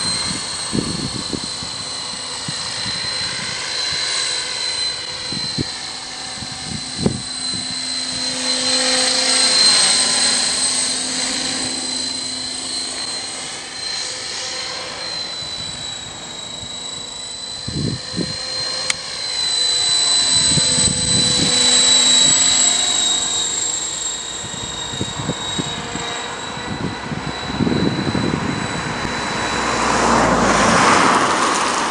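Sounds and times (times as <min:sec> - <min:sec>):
rc helicopter drivetrain whine: 0:00.0 - 0:31.9
rotor whoosh: 0:00.0 - 0:31.9.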